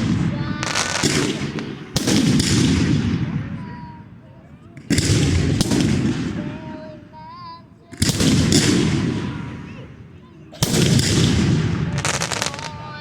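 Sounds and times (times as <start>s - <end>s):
fireworks bangs with rumbling decay: 0.0s - 7.3s, 7.9s - 13.0s.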